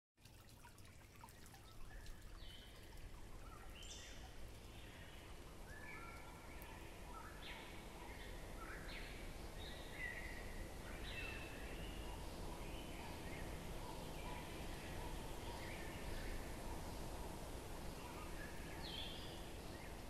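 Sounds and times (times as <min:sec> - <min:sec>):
outdoor ambience: 0:00.2 - 0:20.0.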